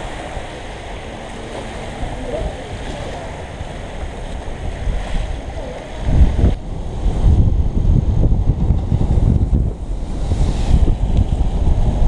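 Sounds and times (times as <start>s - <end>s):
surf washing: 0.0s - 12.0s
water flooding across shore: 0.0s - 12.0s
wind buffeting microphone: 0.0s - 12.0s.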